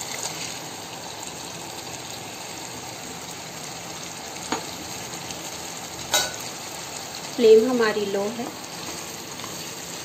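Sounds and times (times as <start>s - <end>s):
gravy bubbling in a pan: 0.0s - 10.0s.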